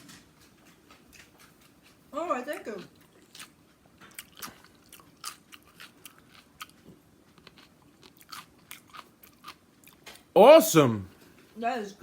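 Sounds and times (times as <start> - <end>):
person chewing food: 0.3 - 10.3.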